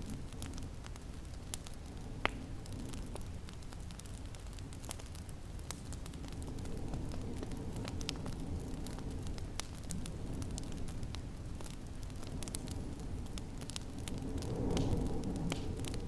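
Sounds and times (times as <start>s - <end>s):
low steady rumble of fire: 0.0s - 16.0s
sharp pops of fire: 0.0s - 16.0s
wood fire crackling: 0.0s - 16.0s.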